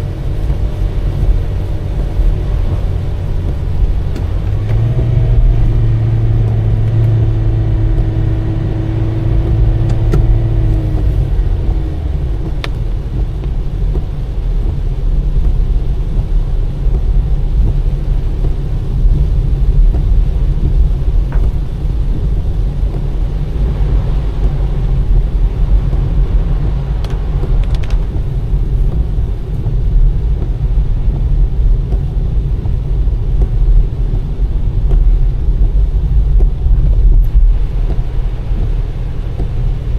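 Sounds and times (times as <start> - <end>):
engine hum: 0.0 - 39.9
tyres rumbling on wet road: 0.0 - 39.9.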